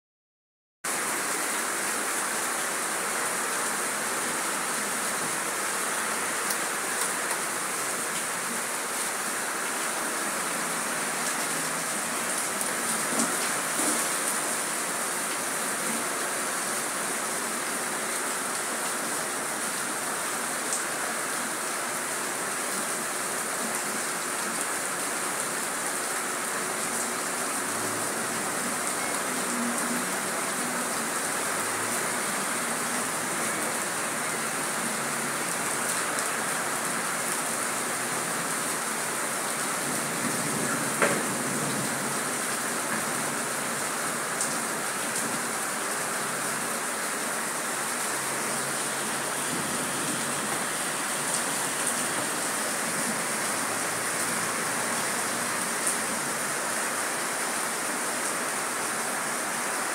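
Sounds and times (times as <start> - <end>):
heavy rain falling: 0.9 - 59.9.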